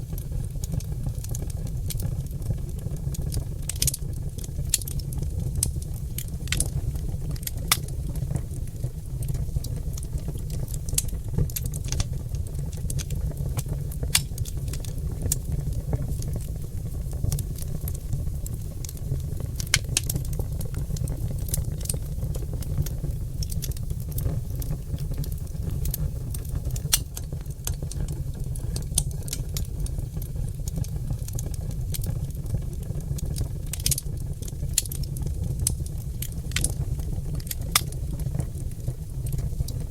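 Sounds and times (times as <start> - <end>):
log fire crackling and popping: 0.0 - 39.9.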